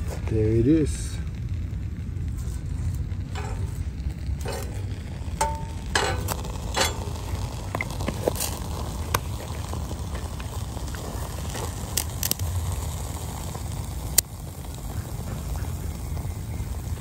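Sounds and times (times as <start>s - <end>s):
fire burning with low rushing: 0.0s - 17.0s
fire crackling pops: 0.0s - 17.0s.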